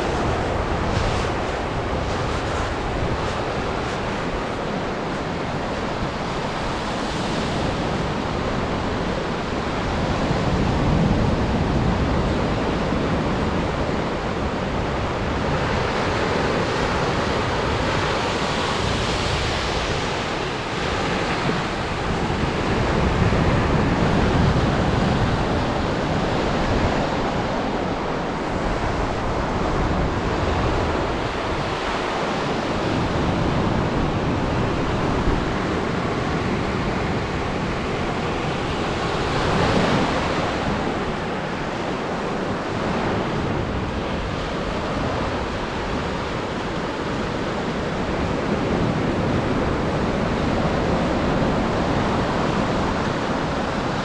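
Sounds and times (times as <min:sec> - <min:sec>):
surf breaking on beach: 0:00.0 - 0:54.0
wind on microphone: 0:00.0 - 0:54.0.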